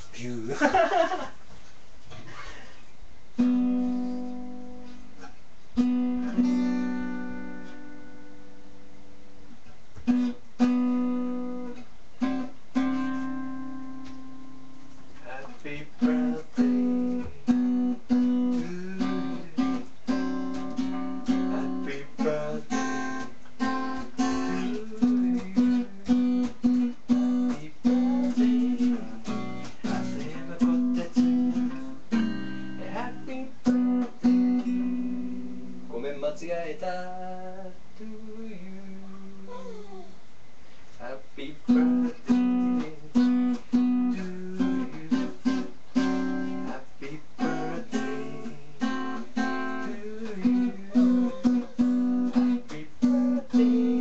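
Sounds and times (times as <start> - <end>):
acoustic guitar strumming: 3.4 - 15.0, 15.7 - 39.4, 41.4 - 54.0.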